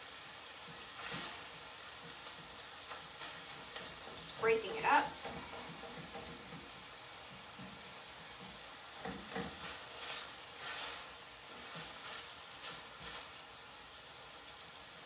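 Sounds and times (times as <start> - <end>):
meat sizzling in a pan: 0.0 - 15.0
spoon scraping and knocking pan: 0.6 - 13.4.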